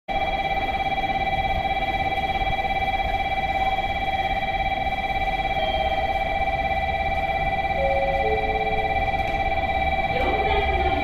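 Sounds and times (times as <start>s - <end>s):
electronic warning bell ringing: 0.1s - 11.0s.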